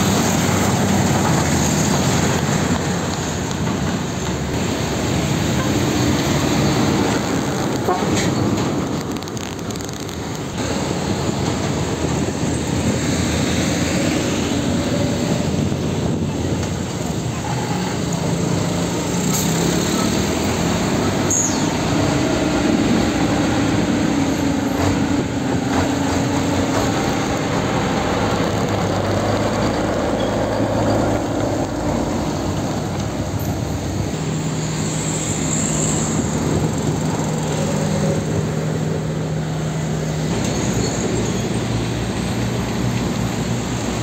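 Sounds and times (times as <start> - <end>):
heavy trucks passing: 0.0 - 44.0
road and tyre noise: 0.0 - 44.0.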